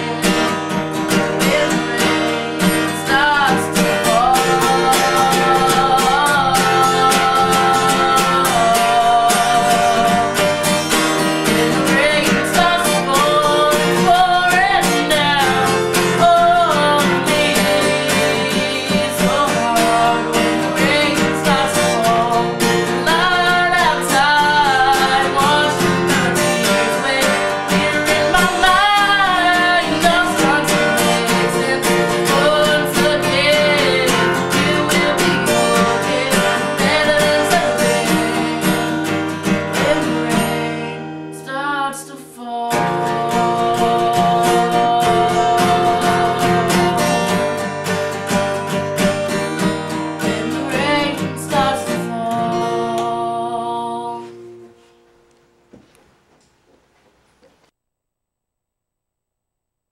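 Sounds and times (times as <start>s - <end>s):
person singing: 0.0s - 54.7s
acoustic guitar strumming: 0.0s - 57.7s.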